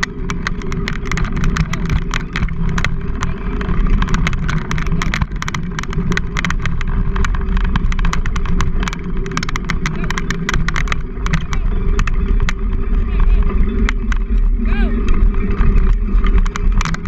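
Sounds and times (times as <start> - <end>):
bicycle frame rattling: 0.0 - 17.0
bicycle tyres crunching on dirt: 0.0 - 17.0
wind rumble on camera: 0.0 - 17.0.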